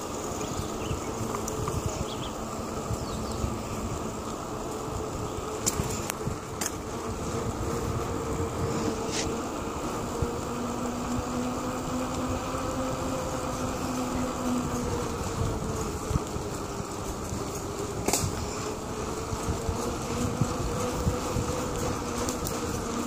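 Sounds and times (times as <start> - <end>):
bicycle wheels humming: 0.0 - 23.0
road rumble and rattle: 0.0 - 23.0.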